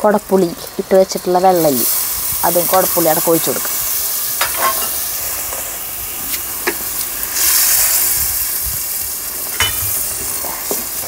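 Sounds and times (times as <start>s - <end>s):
fish sizzling in a pot: 0.0s - 11.0s.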